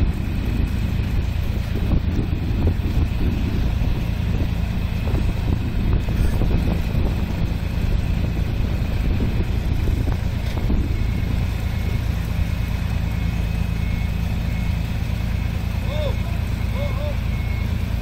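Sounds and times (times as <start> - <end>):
combine harvester diesel engine: 0.0 - 18.0.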